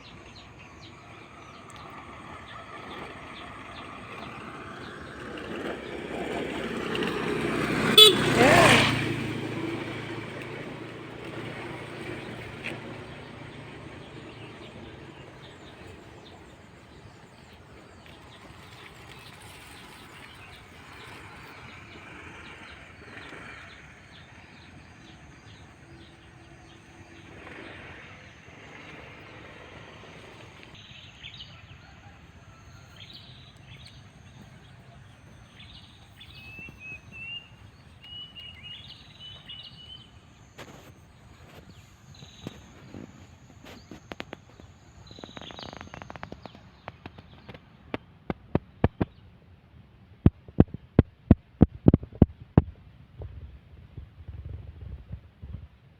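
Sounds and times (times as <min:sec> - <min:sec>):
motor vehicle passing: 0:00.0 - 0:49.2.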